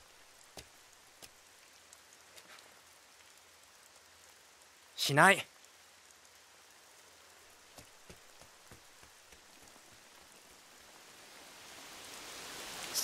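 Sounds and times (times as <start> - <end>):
raindrops ticking: 0.0 - 11.0
steady rainfall: 0.0 - 13.0.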